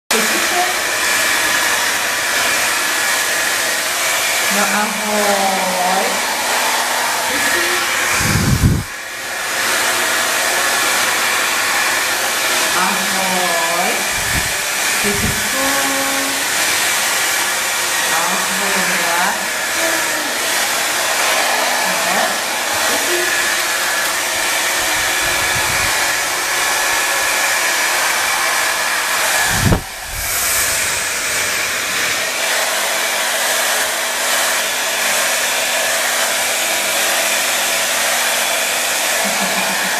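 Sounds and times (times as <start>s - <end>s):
hair dryer blowing: 0.1s - 39.9s.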